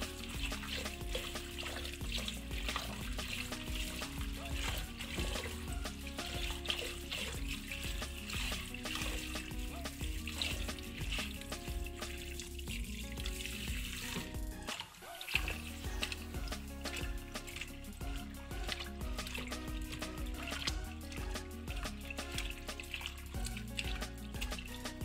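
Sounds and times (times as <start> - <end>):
background music: 0.0 - 25.0
hands swishing leaves in water: 0.0 - 25.0
tap water splashing in sink: 0.0 - 25.0.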